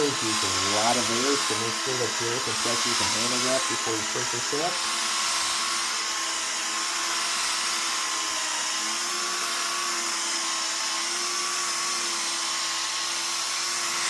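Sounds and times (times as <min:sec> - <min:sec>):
electric buffer motor whine: 0:00.0 - 0:14.0.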